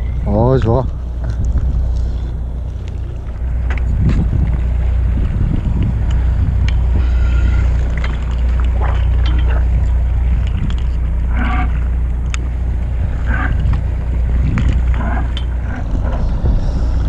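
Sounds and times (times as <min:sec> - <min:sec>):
boat engine droning: 0:00.0 - 0:17.0
wind on microphone: 0:00.0 - 0:17.0.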